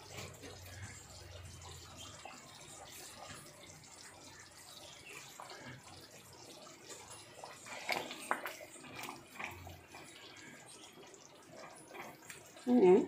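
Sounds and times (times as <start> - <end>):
spatula stirring thick gravy: 0.0 - 12.6
gravy bubbling faintly: 0.0 - 13.0.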